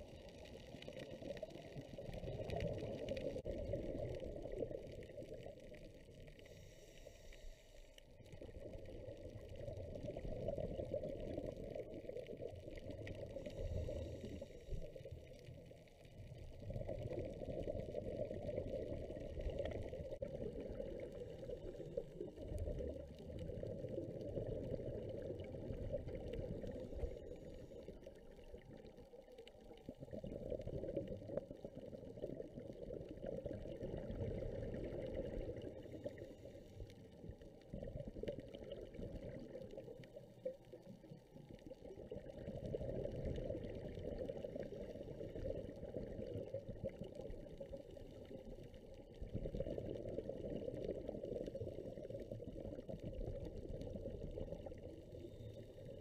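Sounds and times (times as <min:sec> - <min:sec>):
muffled underwater water noise: 0:00.0 - 0:56.0
scuba exhaled air bubbling: 0:00.0 - 0:56.0.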